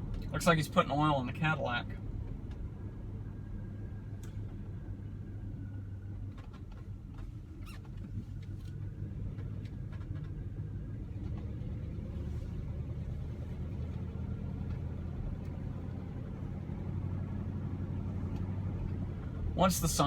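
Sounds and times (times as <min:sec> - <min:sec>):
car engine drone from inside cabin: 0:00.0 - 0:20.0.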